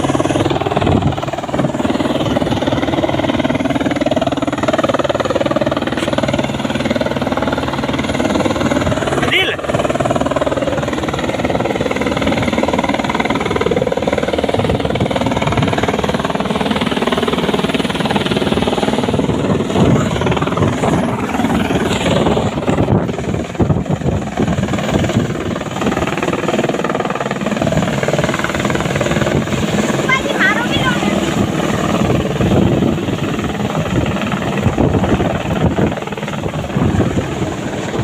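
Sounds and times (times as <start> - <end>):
helicopter rotor chopping: 0.0 - 38.0.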